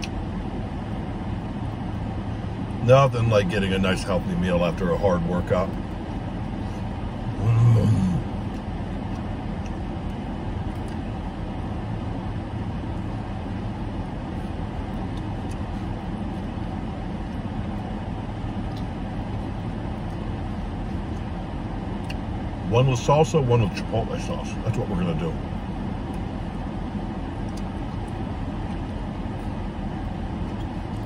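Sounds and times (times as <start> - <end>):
car air conditioning blowing: 0.0 - 31.0.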